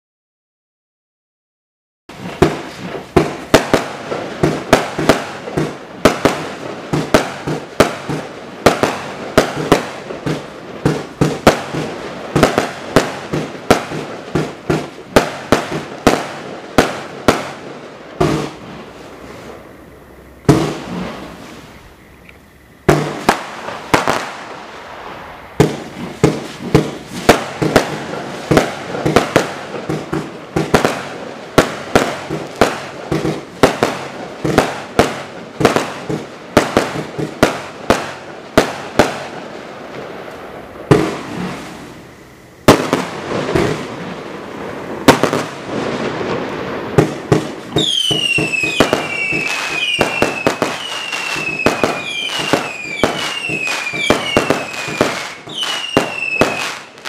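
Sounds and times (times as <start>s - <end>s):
fireworks bangs: 2.1s - 57.0s.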